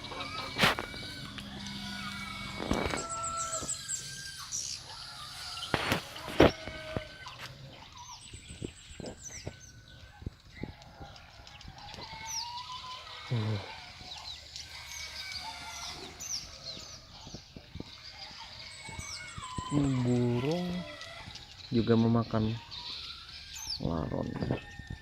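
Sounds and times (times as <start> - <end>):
chicken calling: 0.0 - 25.0.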